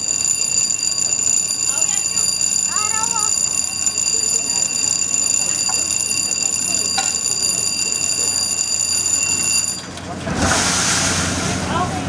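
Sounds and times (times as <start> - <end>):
high-pitched electronic alarm tone: 0.0 - 9.9.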